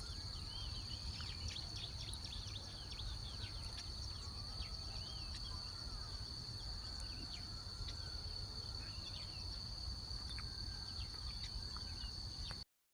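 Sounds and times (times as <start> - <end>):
insect drone: 0.0 - 12.6.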